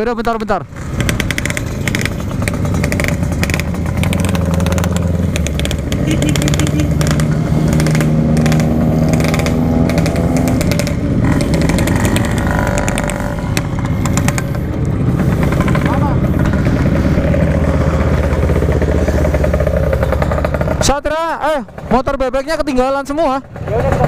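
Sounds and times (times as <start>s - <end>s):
two-stroke motorcycle engine: 0.7s - 24.0s.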